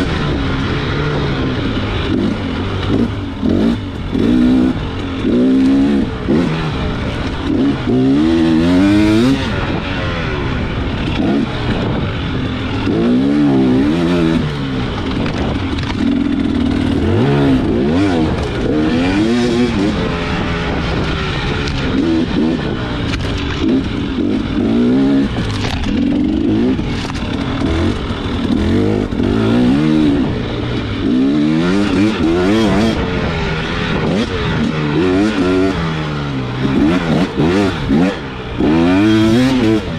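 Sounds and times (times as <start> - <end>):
dirt bike engine revving: 0.0 - 39.9
wind noise: 0.0 - 39.9.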